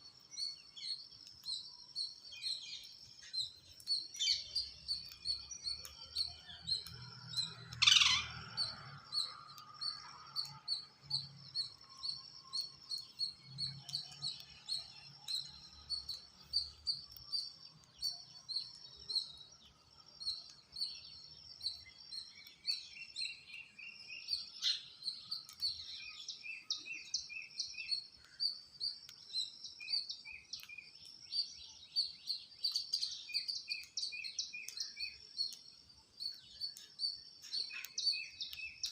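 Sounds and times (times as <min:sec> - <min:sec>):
birds chirping: 0:00.0 - 0:38.9
lower series of chirps: 0:00.0 - 0:38.9.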